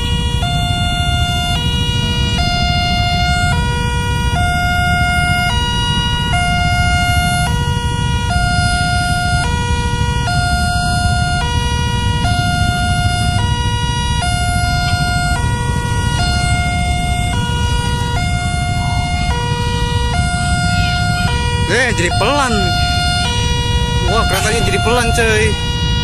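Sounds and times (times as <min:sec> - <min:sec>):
level crossing two-tone alarm: 0:00.0 - 0:26.0.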